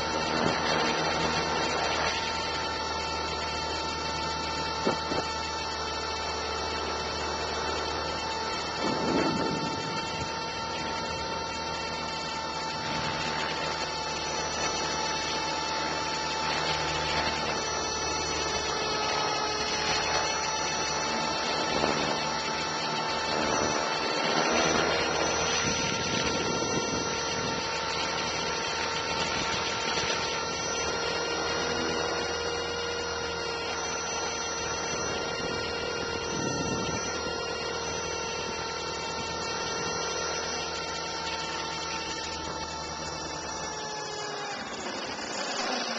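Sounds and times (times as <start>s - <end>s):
electric motor and gears whine: 0.0s - 45.9s
helicopter rotor noise: 0.0s - 45.9s.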